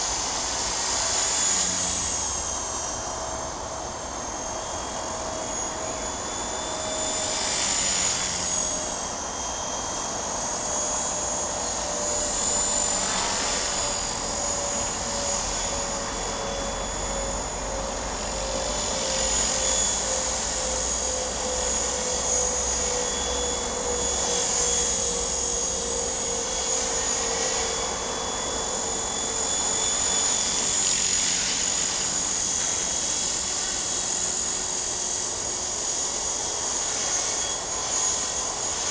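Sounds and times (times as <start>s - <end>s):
model helicopter rotor whine: 0.0s - 38.9s.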